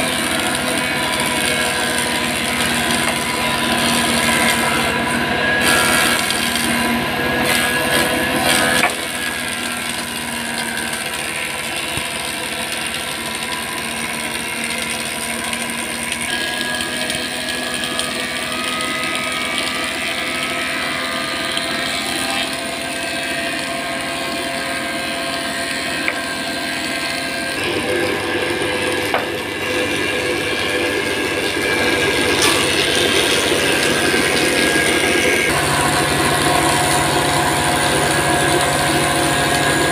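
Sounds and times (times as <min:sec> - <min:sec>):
thickness planer running: 0:00.0 - 0:39.9.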